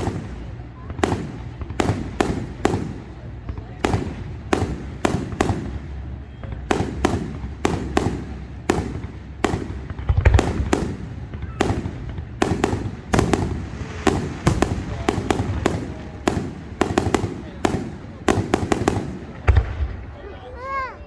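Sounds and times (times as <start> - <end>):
deep firework boom: 0.0 - 20.4
fireworks bangs and crackles: 0.0 - 21.0.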